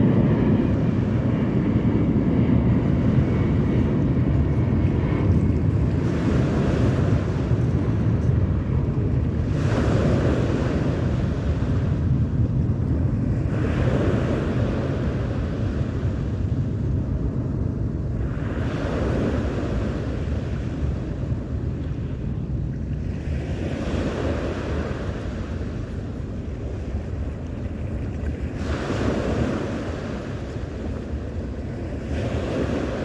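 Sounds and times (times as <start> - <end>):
sea waves washing ashore: 0.0 - 33.0
wind rumble on microphone: 0.0 - 33.0.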